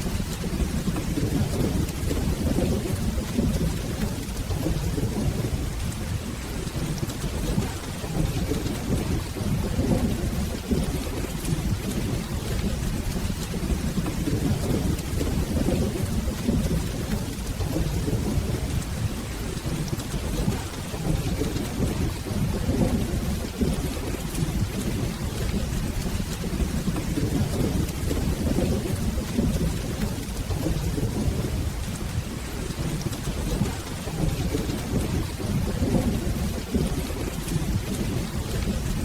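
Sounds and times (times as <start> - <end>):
rolling thunder rumble: 0.0 - 39.0
steady rain: 0.0 - 39.0.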